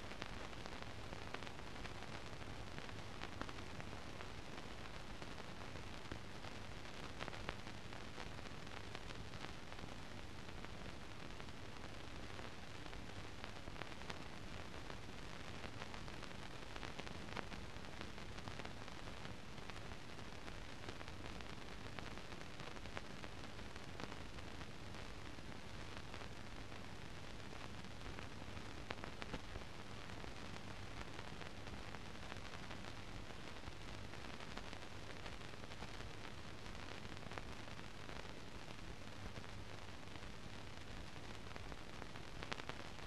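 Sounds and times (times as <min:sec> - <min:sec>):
faint clicks and crackles: 0:00.0 - 0:43.0
steady hiss: 0:00.0 - 0:43.0.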